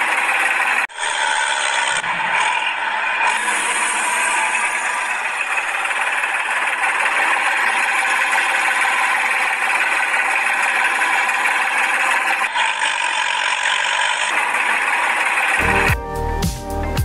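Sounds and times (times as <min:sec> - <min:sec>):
small electric motor running: 0:00.0 - 0:15.9.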